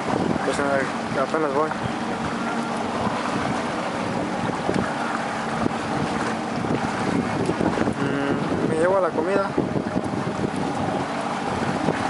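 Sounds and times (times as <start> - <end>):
outboard motor humming: 0.0 - 12.0
water rushing past: 0.0 - 12.0
wind buffeting microphone: 0.0 - 12.0.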